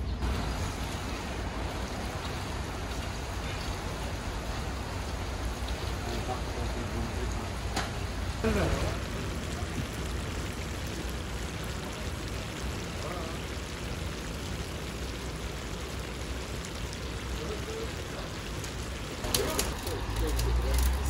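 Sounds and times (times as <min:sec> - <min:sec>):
food simmering in oil: 0:00.2 - 0:21.0.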